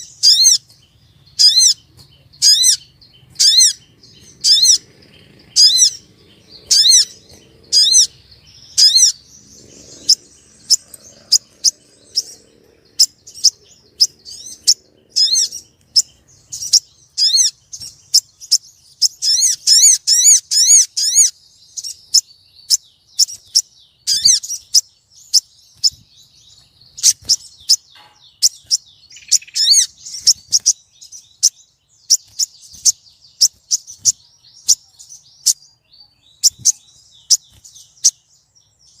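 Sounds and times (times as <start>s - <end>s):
bird chirping: 0.0s - 39.0s.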